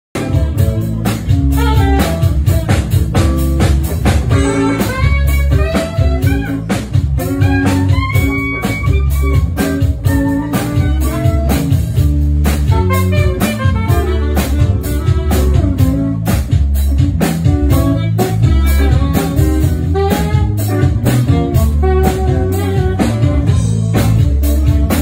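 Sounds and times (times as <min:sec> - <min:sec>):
drum kit beat: 0:00.1 - 0:25.0
heavy bass line: 0:00.2 - 0:25.0
saxophone melody: 0:00.2 - 0:25.0.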